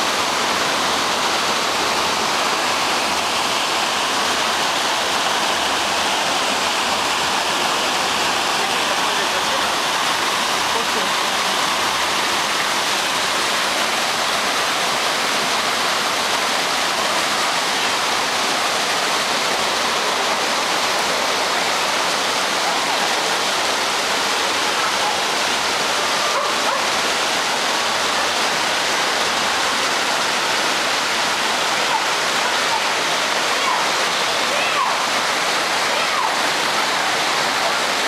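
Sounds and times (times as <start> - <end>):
running water rushing: 0.0 - 38.0.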